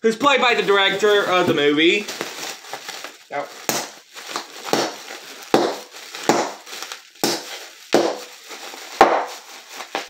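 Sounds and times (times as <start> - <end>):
plastic packing crinkling: 0.2 - 10.0.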